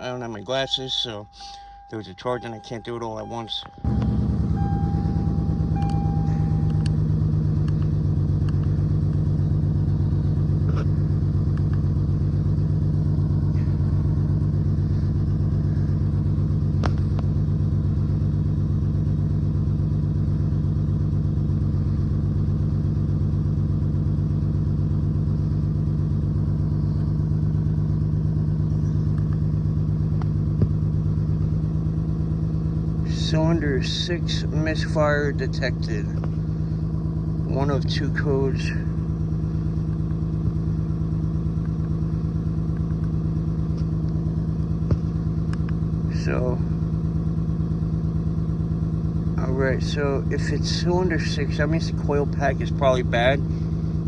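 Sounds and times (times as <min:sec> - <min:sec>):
misfiring engine idling: 0:00.0 - 0:54.0.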